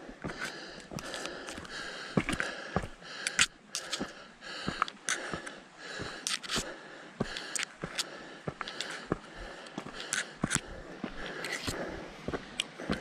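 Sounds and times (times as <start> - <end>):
person breathing: 0.0 - 13.0
footsteps on gravel: 0.2 - 13.0.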